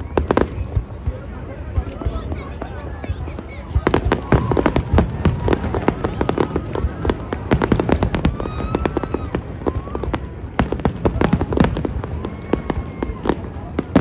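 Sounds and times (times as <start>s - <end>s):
fireworks cracks and bangs: 0.0s - 14.0s.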